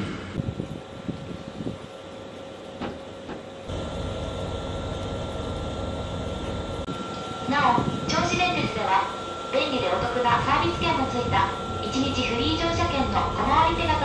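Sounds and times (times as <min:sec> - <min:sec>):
electric train equipment hum: 0:00.0 - 0:14.0.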